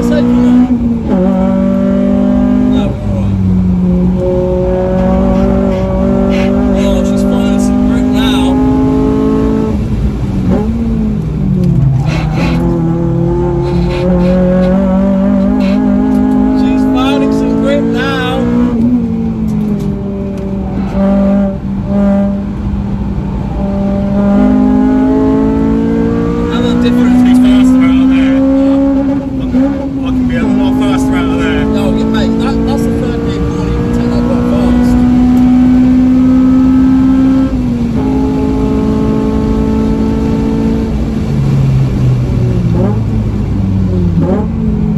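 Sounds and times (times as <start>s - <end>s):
car engine under load: 0.0s - 44.9s.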